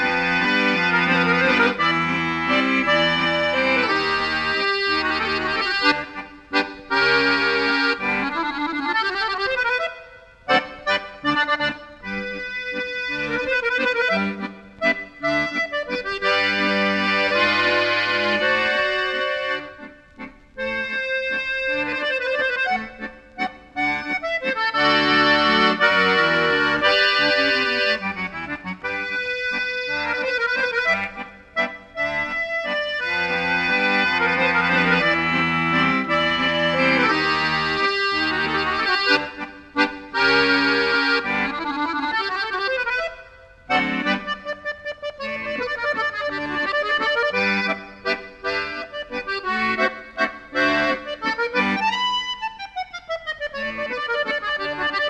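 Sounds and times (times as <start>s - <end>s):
accordion tune: 0.0s - 55.0s.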